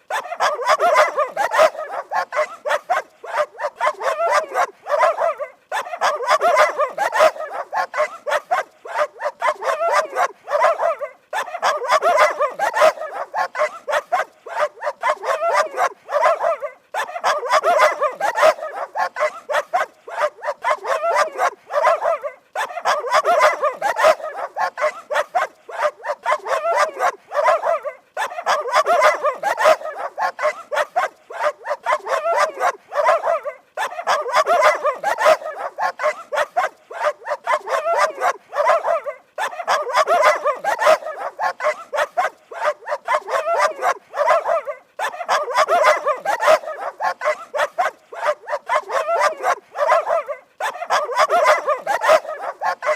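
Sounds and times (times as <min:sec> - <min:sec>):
dog barking rapidly: 0:00.0 - 0:52.9.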